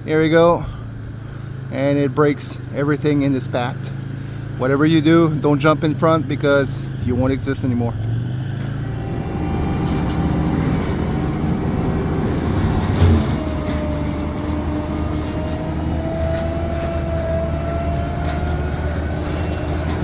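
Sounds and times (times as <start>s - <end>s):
forestry mulcher grinding brush: 3.8s - 20.0s.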